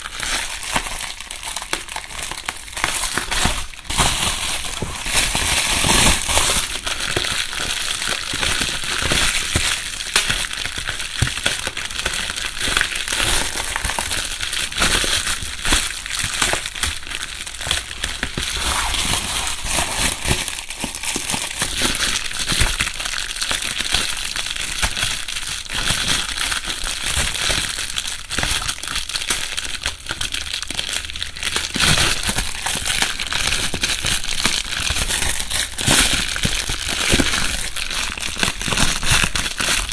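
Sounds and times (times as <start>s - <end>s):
bubble wrap crinkling and popping: 0.0s - 39.9s.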